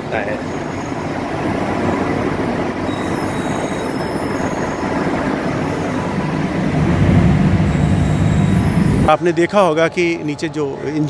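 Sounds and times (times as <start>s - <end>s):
locomotive cab running noise: 0.0s - 9.2s
wheels running on rails: 0.0s - 9.2s.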